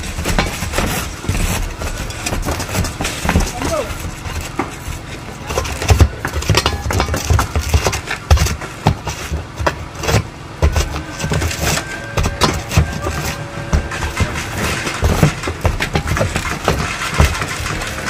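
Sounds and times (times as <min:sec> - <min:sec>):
knocks and scrapes of shingles: 0:00.0 - 0:18.0.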